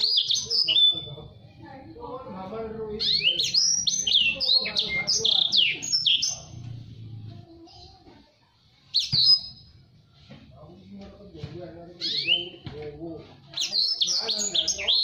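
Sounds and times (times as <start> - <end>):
canary singing: 0.0 - 10.0, 11.8 - 12.8, 13.4 - 15.0.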